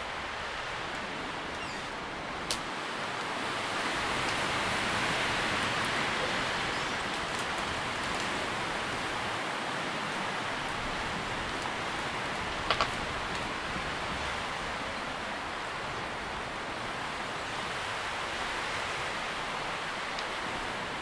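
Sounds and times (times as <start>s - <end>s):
leaves rustling in wind: 0.0s - 21.0s.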